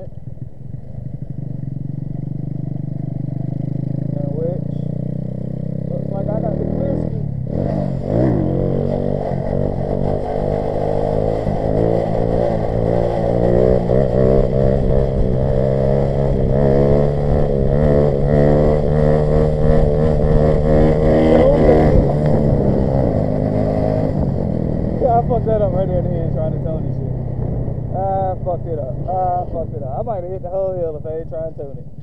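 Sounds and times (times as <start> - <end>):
mini bike engine under throttle: 0.2 - 25.8.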